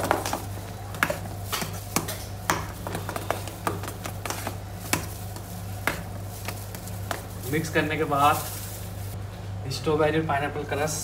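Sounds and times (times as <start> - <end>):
stirring in a steel bowl: 0.0 - 9.2
steady low hum: 0.0 - 11.0.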